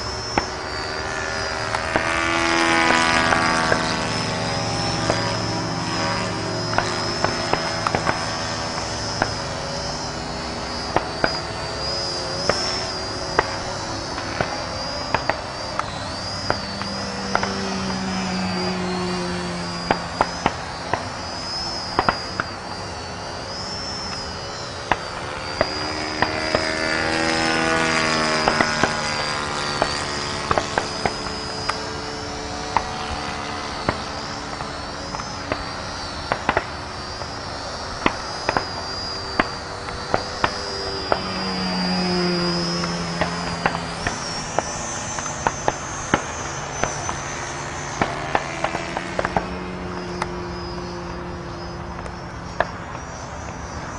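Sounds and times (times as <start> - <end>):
model plane motor whining: 0.0 - 53.9.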